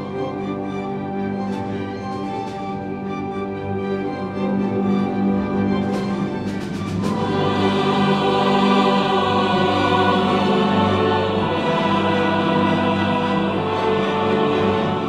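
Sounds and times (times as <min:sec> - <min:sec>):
orchestra playing slow chords: 0:00.0 - 0:15.0.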